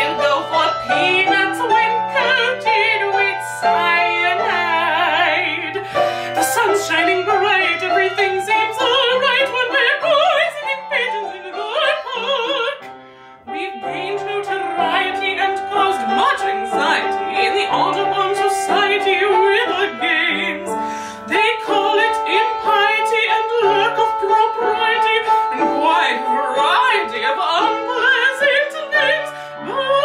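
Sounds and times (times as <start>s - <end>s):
operatic soprano singing: 0.0s - 12.9s, 13.5s - 30.0s
piano accompaniment: 0.0s - 30.0s.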